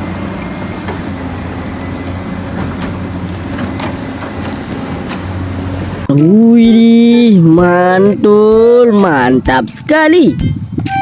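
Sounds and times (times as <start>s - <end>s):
motor hum: 0.0s - 8.8s.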